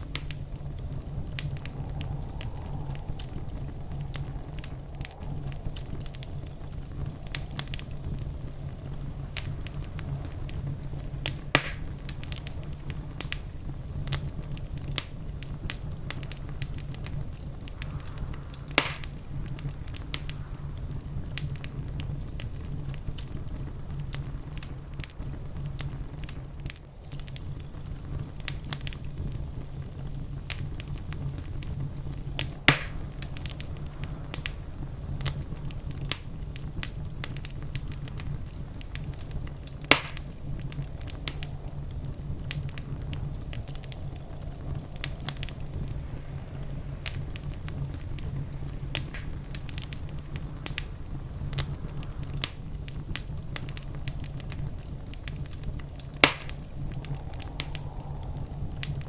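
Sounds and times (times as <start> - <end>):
fire popping: 0.0 - 59.0
fireplace fire crackling: 0.0 - 59.0.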